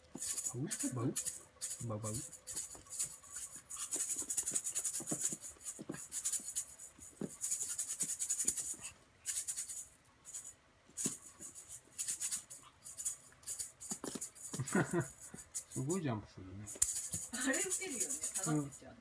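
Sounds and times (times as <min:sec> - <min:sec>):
maraca rattling: 0:00.0 - 0:19.0.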